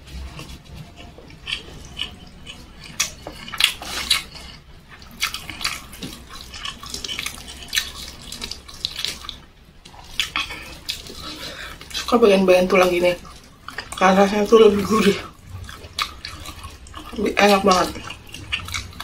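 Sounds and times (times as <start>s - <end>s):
wet chewing and lip smacks: 0.3s - 19.0s.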